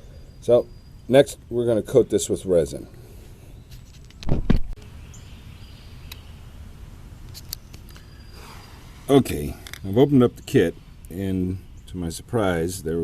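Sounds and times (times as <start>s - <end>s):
faint bird chirps: 0.0s - 2.1s, 3.1s - 12.6s
outdoor background noise: 0.0s - 13.0s.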